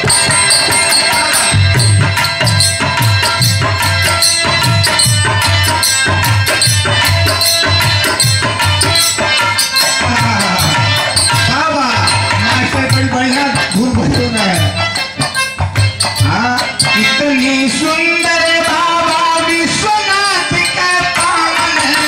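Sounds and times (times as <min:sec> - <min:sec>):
hand drum beat: 0:00.0 - 0:22.0
harmonium melody: 0:00.0 - 0:22.0
rattling percussion: 0:00.0 - 0:22.0.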